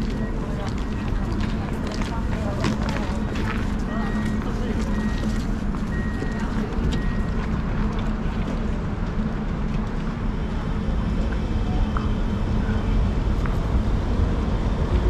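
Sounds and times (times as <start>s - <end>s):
tram rumble and hum: 0.0s - 15.0s.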